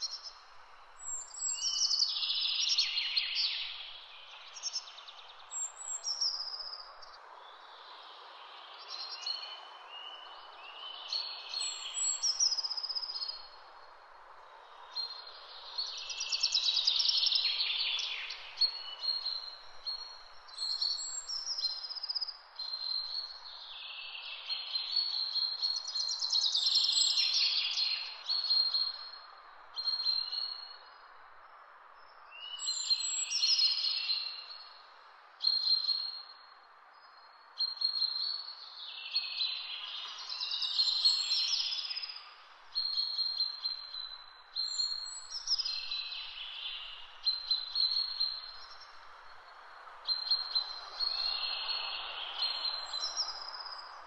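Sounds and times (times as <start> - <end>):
songbirds singing with trills: 0.0 - 54.0
steady background hiss: 0.0 - 54.0.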